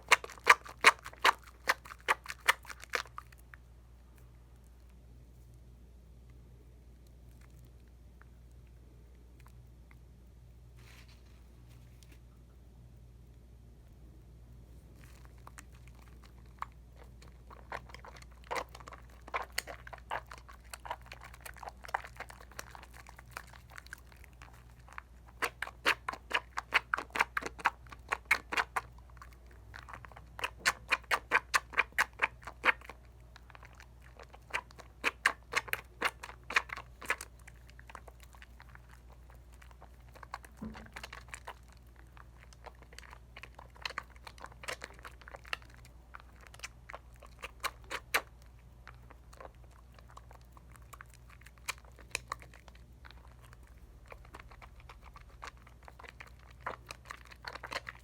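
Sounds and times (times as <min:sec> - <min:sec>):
soap lather squishing between hands: 0:00.0 - 0:05.0, 0:14.8 - 0:58.0.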